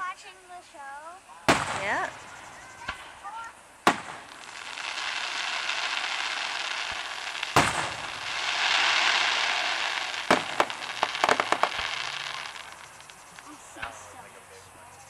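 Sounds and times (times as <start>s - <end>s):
fireworks bursting: 0.0s - 14.8s
fireworks crackling: 0.0s - 15.0s
sharp fireworks bangs: 1.4s - 14.6s.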